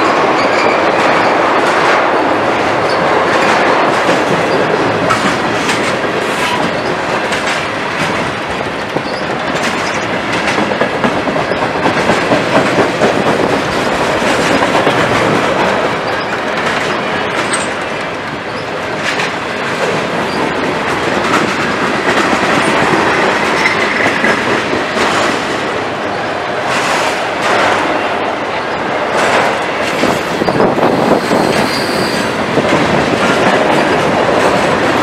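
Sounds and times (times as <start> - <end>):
clickety-clack over rail joints: 0.0 - 35.0
train wheels rumbling on rail: 0.0 - 35.0.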